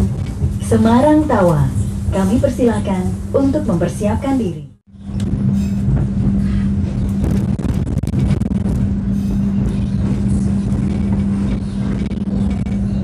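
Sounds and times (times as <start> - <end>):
train rumble from inside coach: 0.0 - 13.0.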